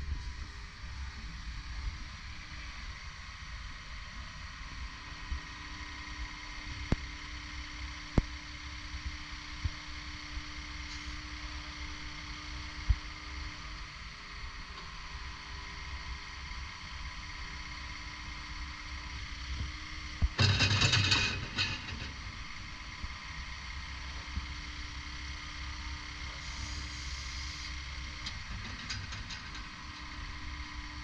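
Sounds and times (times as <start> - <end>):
excavator engine humming: 4.8 - 31.0.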